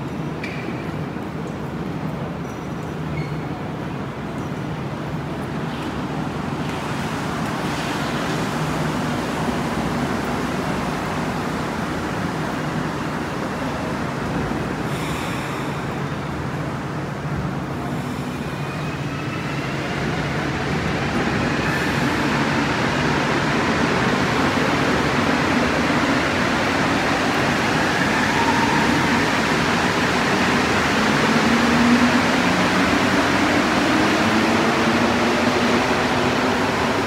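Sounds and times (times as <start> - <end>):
trains rumbling in station: 0.0 - 37.0.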